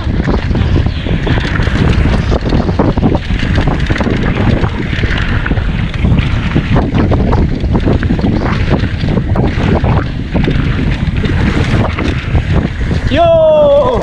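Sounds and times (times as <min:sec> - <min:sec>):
bike knocking and rattling: 0:00.0 - 0:14.0
tyres on loose dirt: 0:00.0 - 0:14.0
wind buffeting microphone: 0:00.0 - 0:14.0.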